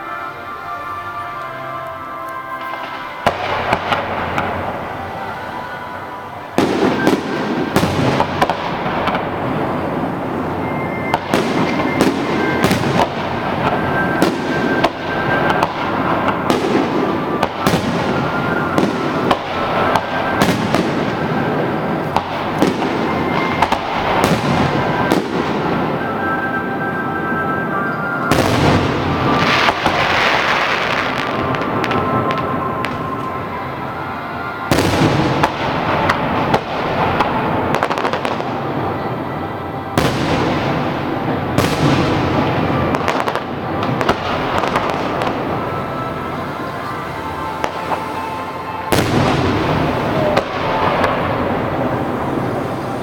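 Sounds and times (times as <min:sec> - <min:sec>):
music: 0:00.0 - 0:53.0
fireworks bangs and crackling: 0:02.4 - 0:53.0.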